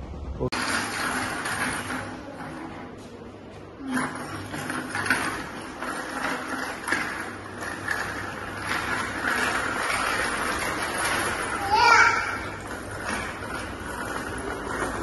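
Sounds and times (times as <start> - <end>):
wooden baby walker rattling on tiles: 0.5 - 3.0, 3.8 - 15.0.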